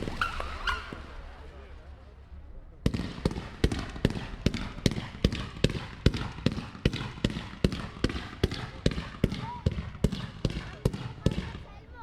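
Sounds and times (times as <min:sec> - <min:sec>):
fireworks bangs echoing: 0:00.0 - 0:11.7.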